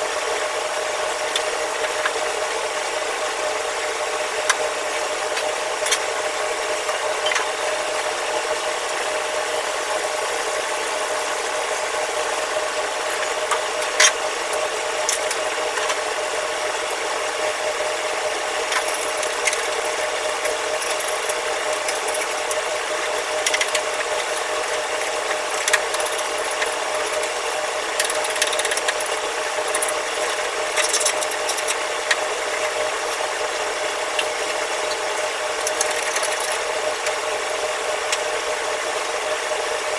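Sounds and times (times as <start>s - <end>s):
ventilation machine drone: 0.0s - 39.9s.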